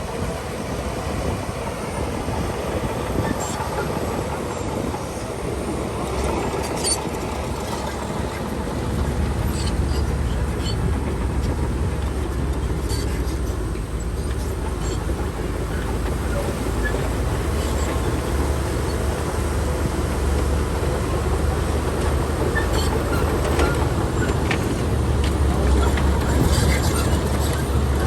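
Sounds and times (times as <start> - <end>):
bulldozer engine droning: 0.0 - 28.0.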